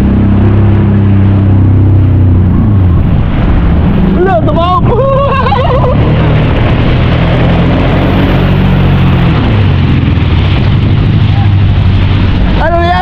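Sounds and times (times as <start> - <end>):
churning wake water: 0.0 - 13.0
jet ski engine running: 0.0 - 13.0
wind rushing: 0.0 - 13.0.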